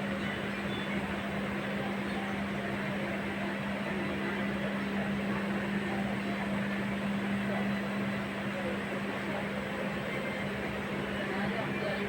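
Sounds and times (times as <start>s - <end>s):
train carriage running noise: 0.0s - 12.0s.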